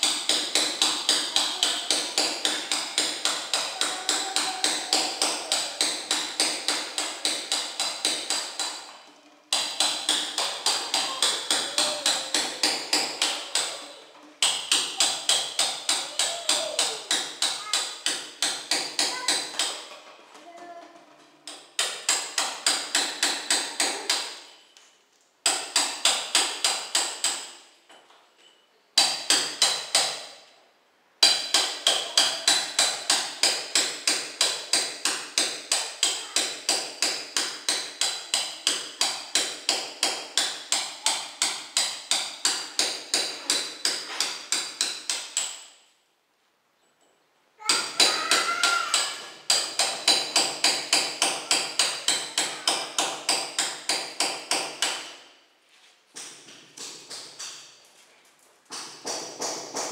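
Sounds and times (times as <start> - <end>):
hand hammer chipping tile: 0.0 - 20.0, 21.4 - 24.6, 25.4 - 27.6, 29.0 - 30.4, 31.2 - 45.7, 47.6 - 55.2, 56.2 - 57.8, 58.7 - 59.9.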